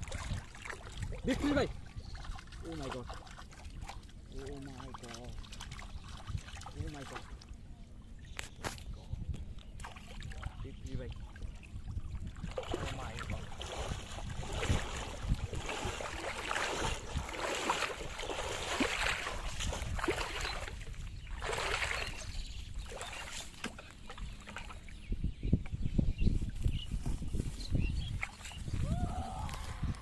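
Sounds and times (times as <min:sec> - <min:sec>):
water sloshing and splashing: 0:00.0 - 0:25.1, 0:26.5 - 0:30.0.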